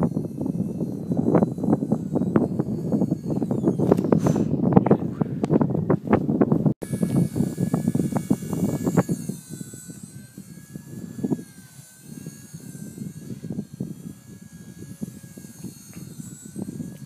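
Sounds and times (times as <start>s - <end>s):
rc helicopter motor whining: 0.0s - 17.0s
wind buffeting microphone: 0.0s - 17.0s.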